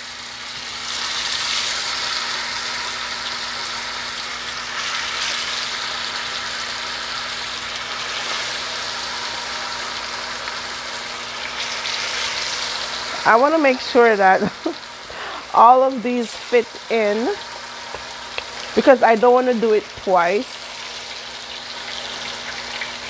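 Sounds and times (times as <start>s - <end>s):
meat sizzling in hot oil: 0.0s - 23.0s.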